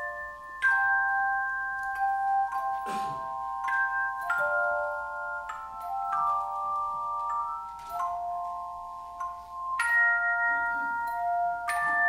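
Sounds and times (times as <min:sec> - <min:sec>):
handbells ringing chords: 0:00.0 - 0:12.0.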